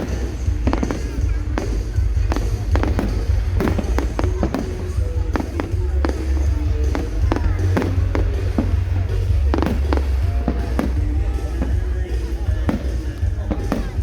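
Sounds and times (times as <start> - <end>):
fireworks bangs: 0.0 - 14.0
low rumble: 0.0 - 14.0
music playing: 0.0 - 14.0.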